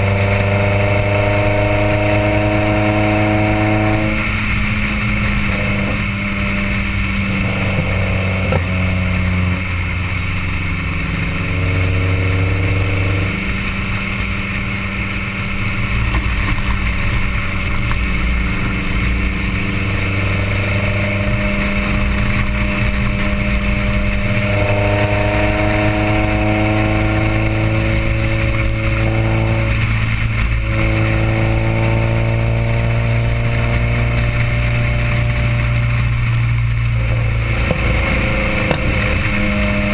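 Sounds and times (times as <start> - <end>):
loud car exhaust note: 0.0 - 39.9
tyre and road noise: 0.0 - 39.9.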